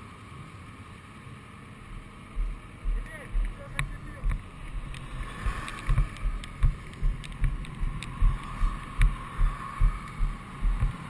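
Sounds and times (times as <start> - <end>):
steady rushing noise: 1.4 - 11.0
wind buffeting microphone: 1.9 - 11.0.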